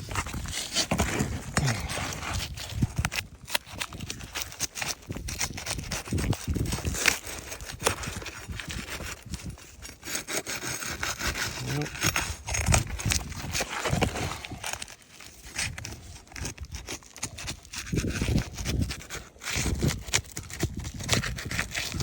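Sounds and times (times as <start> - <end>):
pry bar scraping shingles: 0.0 - 22.0.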